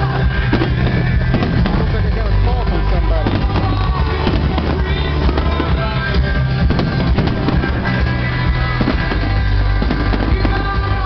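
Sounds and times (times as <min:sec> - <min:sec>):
fireworks bangs: 0:00.0 - 0:11.0
loud music: 0:00.0 - 0:11.0.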